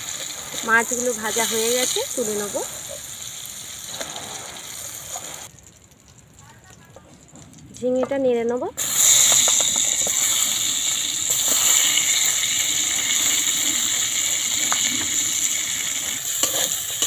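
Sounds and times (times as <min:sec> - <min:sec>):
vegetables frying in hot oil: 0:00.0 - 0:17.0.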